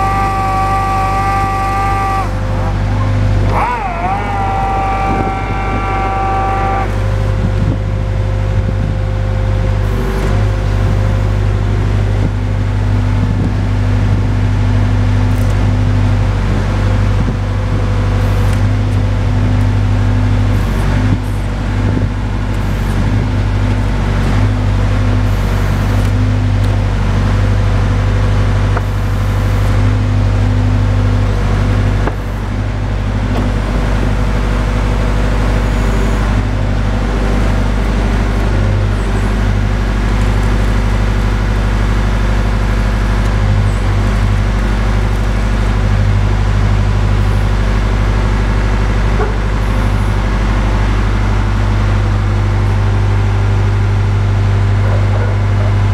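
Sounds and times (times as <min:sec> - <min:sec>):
drill rig engine drone: 0:00.0 - 0:55.9
high whine: 0:00.0 - 0:55.9.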